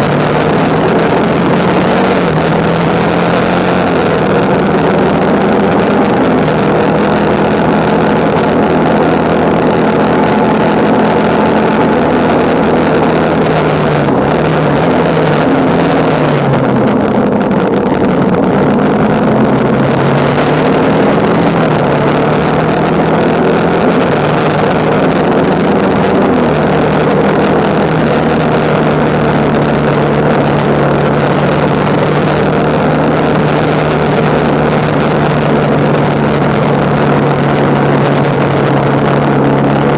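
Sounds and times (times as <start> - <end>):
motorcycle engine running: 0.0 - 39.9
wind rushing past microphone: 0.0 - 39.9.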